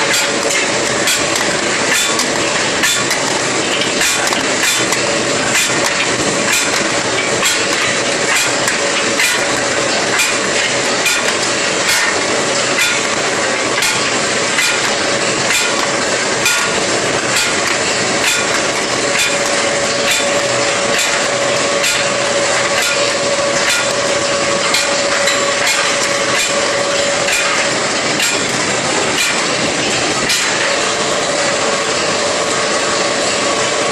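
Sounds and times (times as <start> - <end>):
machine hum: 0.0 - 33.9.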